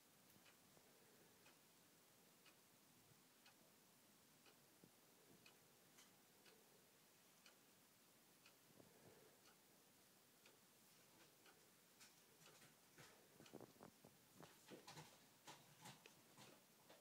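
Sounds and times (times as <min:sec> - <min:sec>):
clock ticking: 0:00.0 - 0:17.0
faint irregular clicks: 0:00.0 - 0:17.0.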